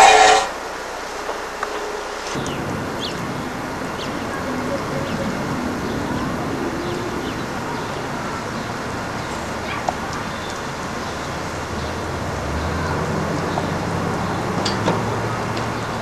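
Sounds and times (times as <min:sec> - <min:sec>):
traffic noise: 0:00.0 - 0:16.0
low engine hum: 0:01.5 - 0:16.0.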